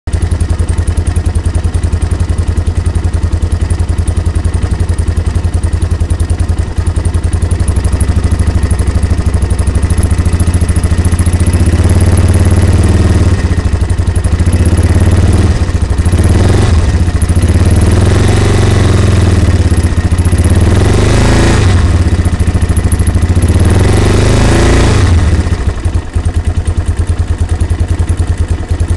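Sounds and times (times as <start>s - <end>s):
engine idling and revving: 0.1s - 28.9s.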